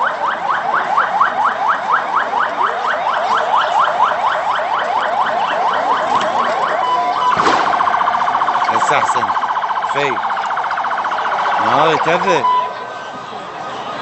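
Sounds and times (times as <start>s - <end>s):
electronic alarm siren whooping: 0.0s - 12.7s.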